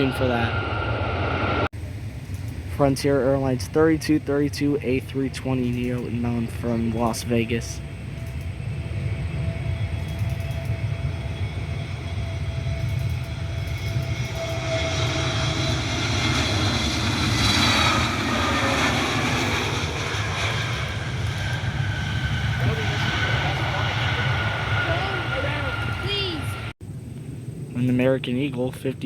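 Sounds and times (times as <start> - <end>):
jet airliner engine whine: 0.0 - 29.0.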